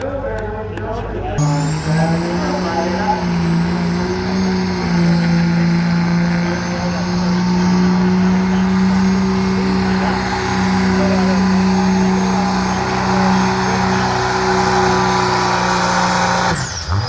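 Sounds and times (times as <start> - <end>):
diesel truck engine revving high: 1.4 - 17.0.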